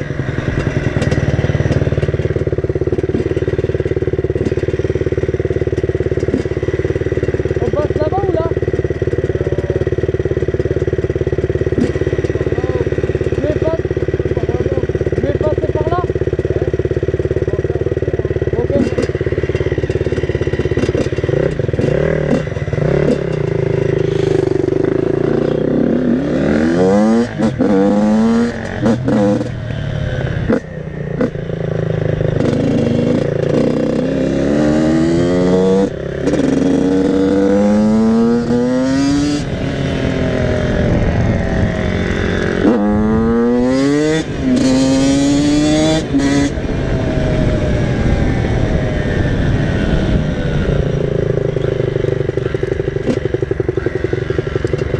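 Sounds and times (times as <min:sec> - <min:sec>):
motocross engine accelerating: 0:00.0 - 0:54.9.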